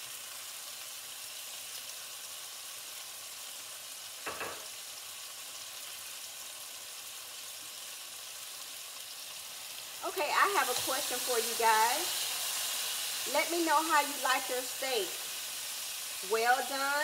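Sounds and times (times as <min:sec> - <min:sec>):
steak and onions sizzling: 0:00.0 - 0:17.0.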